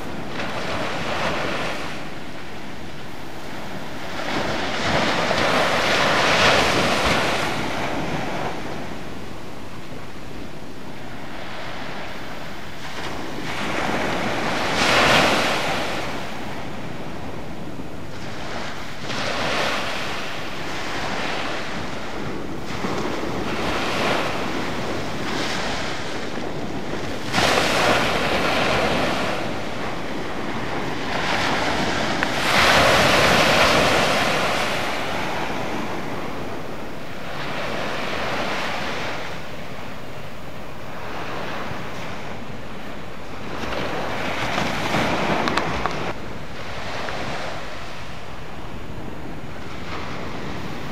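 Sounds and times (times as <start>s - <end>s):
sea waves washing up a beach: 0.0s - 50.9s.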